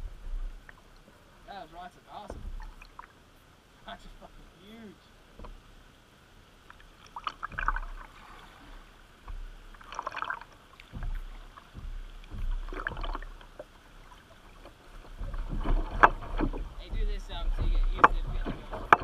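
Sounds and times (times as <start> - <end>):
paddle splashing in water: 0.0 - 4.3, 5.3 - 19.0.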